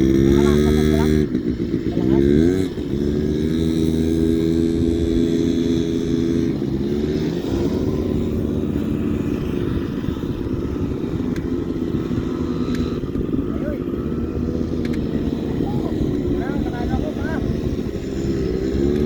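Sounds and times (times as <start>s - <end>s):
small vehicle engine revving: 0.0s - 19.0s.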